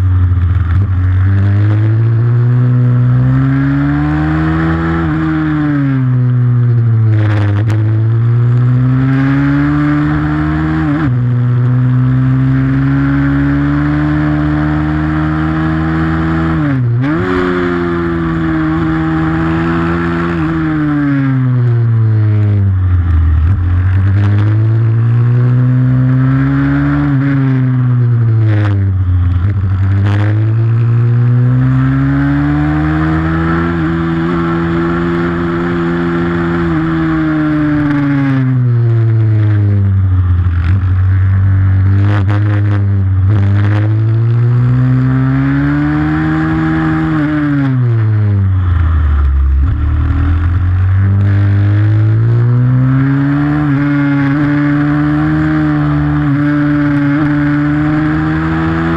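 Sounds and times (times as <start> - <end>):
motorbike engine revving: 0.0 - 58.9.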